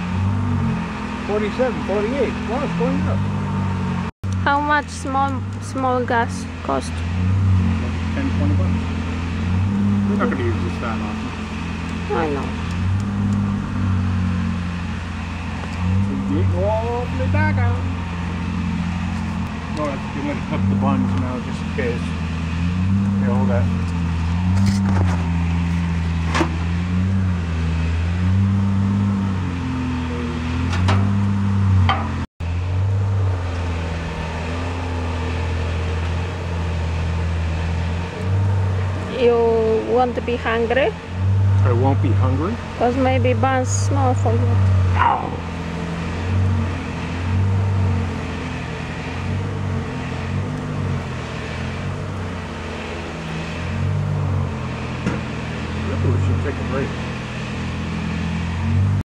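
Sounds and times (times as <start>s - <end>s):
low mechanical motor hum: 0.0s - 59.0s.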